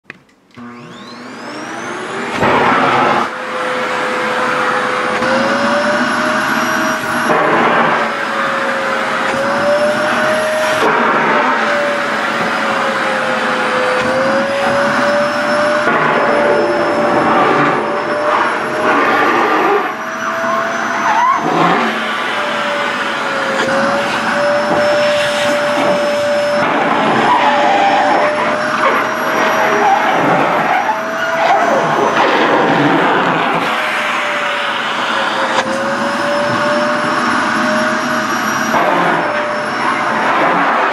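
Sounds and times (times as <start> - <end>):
vacuum cleaner running: 0.5 - 40.9.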